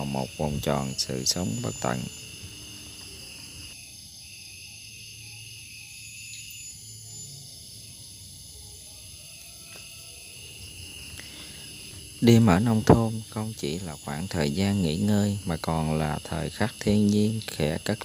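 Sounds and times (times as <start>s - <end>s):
crickets and night insects trilling: 0.0s - 18.0s.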